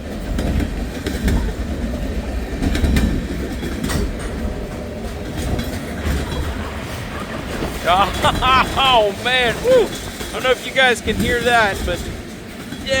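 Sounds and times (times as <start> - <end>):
freight train cars rolling: 0.0 - 13.0
wheels clacking over rail joints: 0.0 - 13.0
wind buffeting microphone: 0.0 - 13.0.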